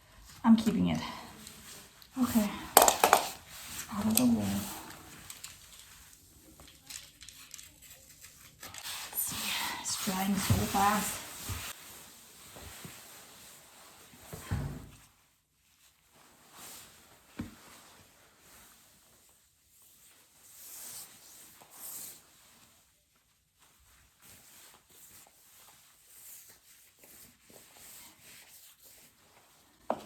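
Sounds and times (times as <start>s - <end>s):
soft rustles and scrapes: 0.1s - 30.0s.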